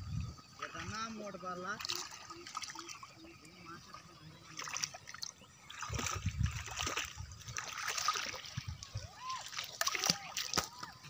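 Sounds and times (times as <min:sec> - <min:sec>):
water splashing around wading legs: 0:00.4 - 0:11.0.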